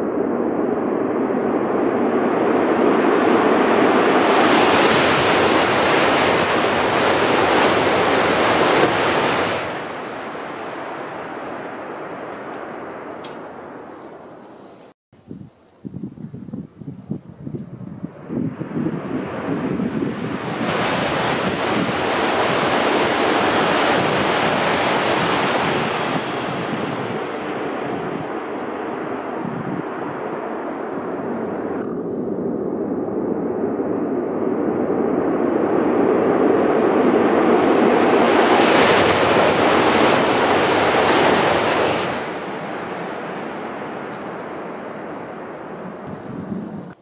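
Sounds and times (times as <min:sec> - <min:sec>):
high-speed train passing: 0:00.0 - 0:14.5, 0:18.2 - 0:31.8, 0:36.6 - 0:47.0.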